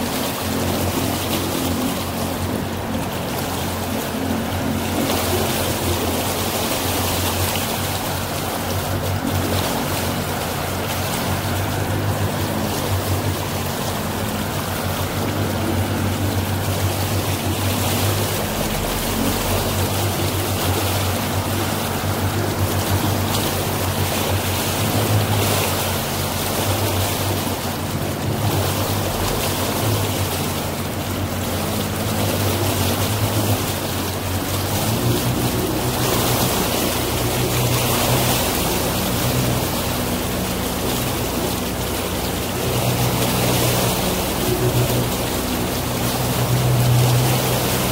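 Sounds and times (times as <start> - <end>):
motorboat engine drone: 0.0 - 47.9
water rushing against hull: 0.0 - 47.9.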